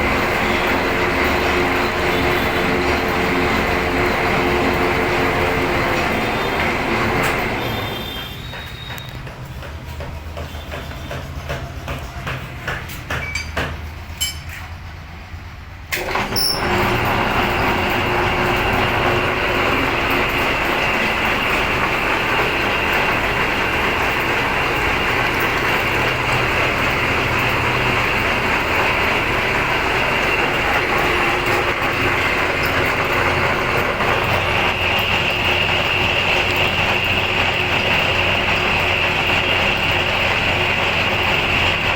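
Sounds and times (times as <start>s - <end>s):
metal lathe running: 0.0s - 14.9s, 16.0s - 41.9s.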